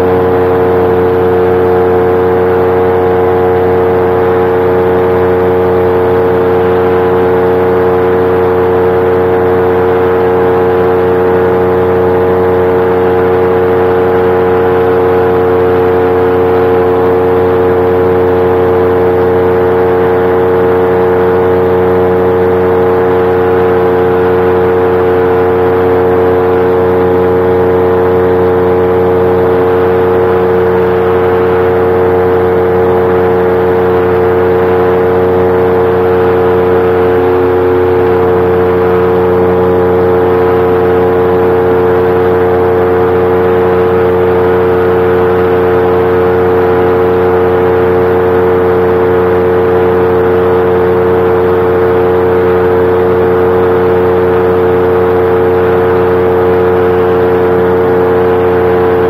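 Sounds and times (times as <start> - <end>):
paramotor engine buzzing: 0.0 - 59.0.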